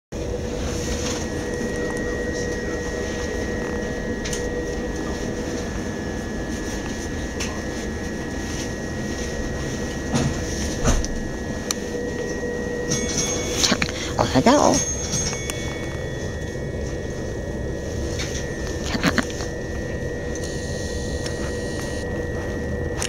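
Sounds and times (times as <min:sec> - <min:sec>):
electric train carriage hum: 0:00.1 - 0:23.0
high electrical whine: 0:00.2 - 0:23.0.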